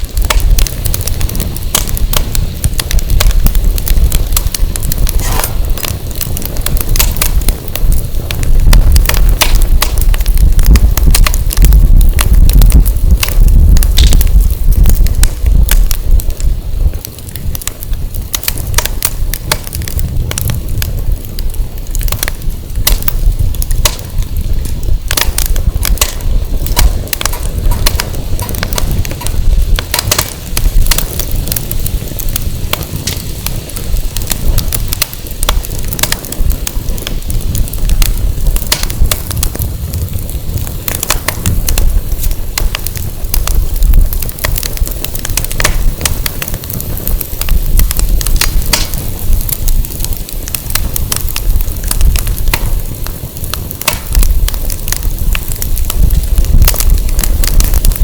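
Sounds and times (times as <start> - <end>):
firewood crackling and popping: 0.0 - 58.0
wind on microphone: 0.0 - 58.0.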